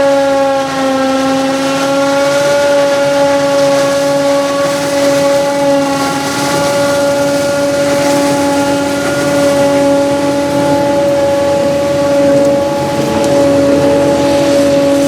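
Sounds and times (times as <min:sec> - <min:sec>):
harvester humming whine: 0:00.0 - 0:15.0.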